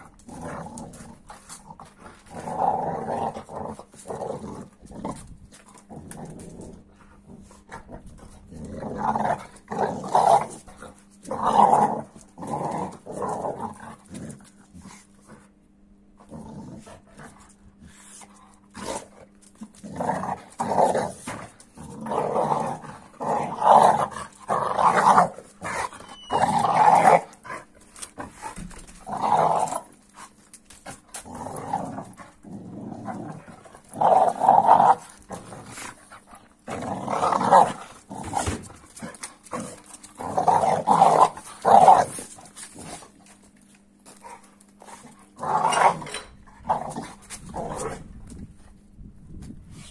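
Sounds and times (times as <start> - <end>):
dog growling: 0.0 - 15.2, 16.2 - 18.1, 18.7 - 30.3, 31.1 - 43.1.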